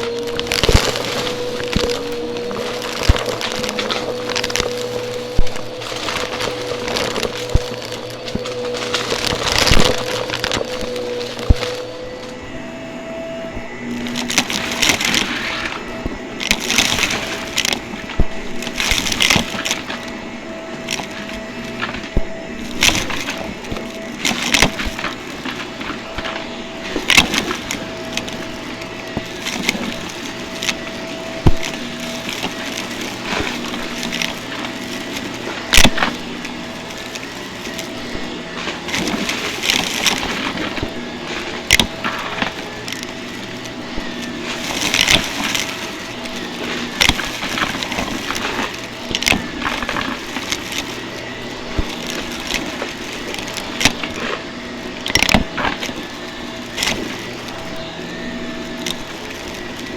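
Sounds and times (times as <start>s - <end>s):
crackling surges: 0.0s - 59.9s
vacuum cleaner running: 0.0s - 59.9s.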